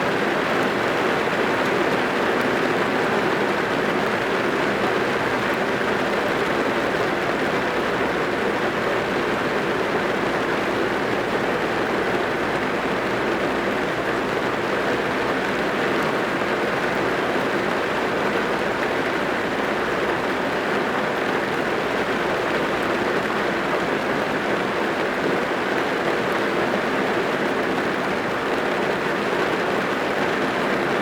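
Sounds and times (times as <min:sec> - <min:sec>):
heavy rain on car roof: 0:00.0 - 0:31.0.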